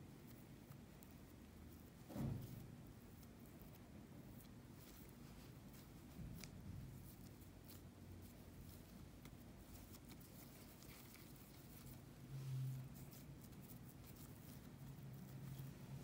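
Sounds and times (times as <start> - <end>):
hands rustling dough: 0.0 - 16.0
low steady hum: 0.0 - 16.0.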